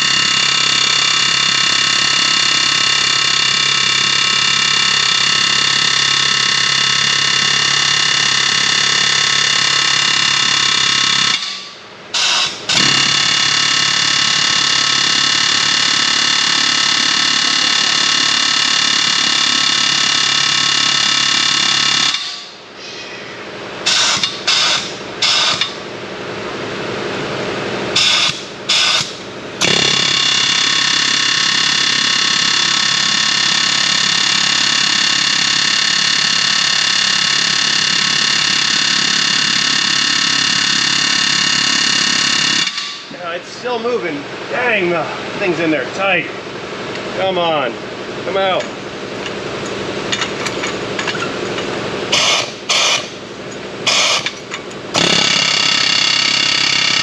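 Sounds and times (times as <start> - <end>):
pneumatic air hammer running: 0.0 - 23.1, 23.8 - 25.8, 27.9 - 43.1, 48.4 - 57.0.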